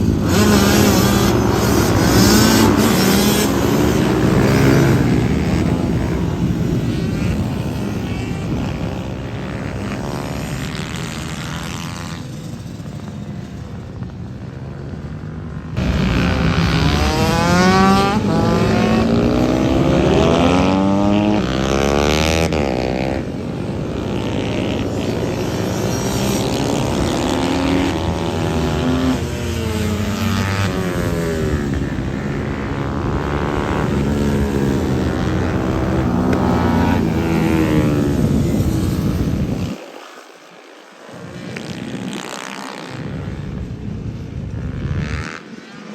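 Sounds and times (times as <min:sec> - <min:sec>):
mini bike engines revving: 0:00.0 - 0:45.9.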